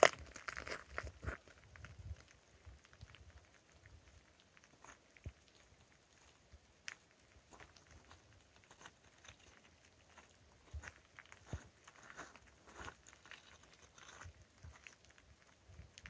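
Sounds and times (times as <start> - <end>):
soft clicks and crunches: 0.0 - 16.0.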